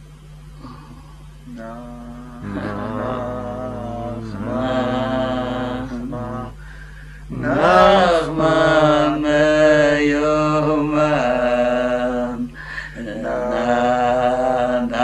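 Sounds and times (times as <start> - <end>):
man chanting slow melody: 1.5 - 6.6, 7.3 - 15.0.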